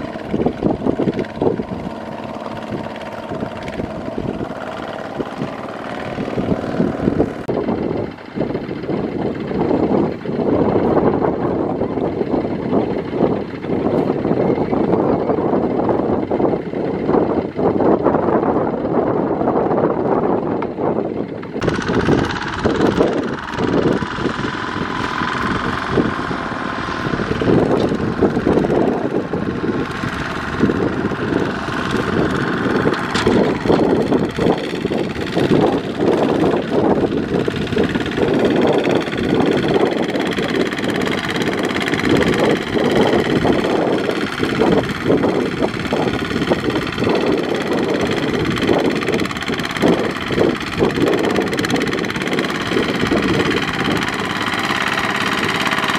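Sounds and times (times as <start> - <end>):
diesel tiller engine under load: 0.0 - 55.9.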